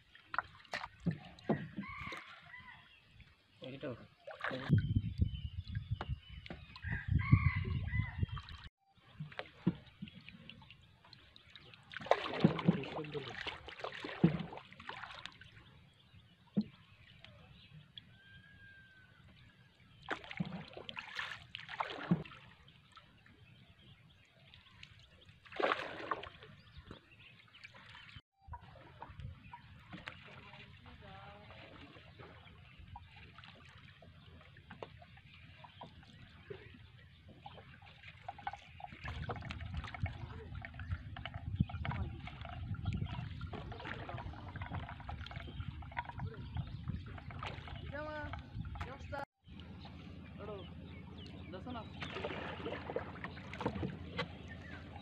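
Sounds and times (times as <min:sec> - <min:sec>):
pole paddling water splashing: 0:00.0 - 0:55.0.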